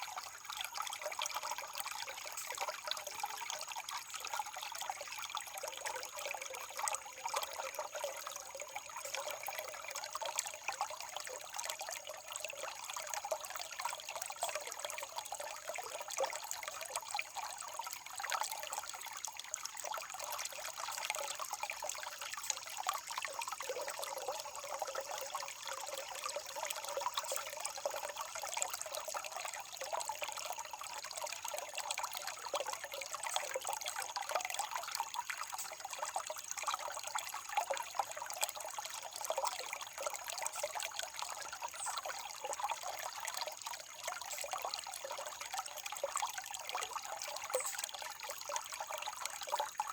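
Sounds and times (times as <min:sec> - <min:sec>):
small water splashes: 0:00.0 - 0:49.9
water trickling: 0:00.0 - 0:49.9.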